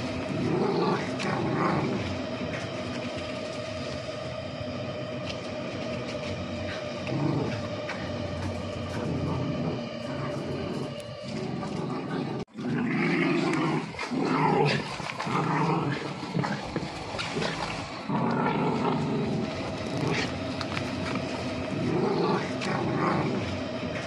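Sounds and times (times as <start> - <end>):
dogs growling in play: 0.0 - 24.0.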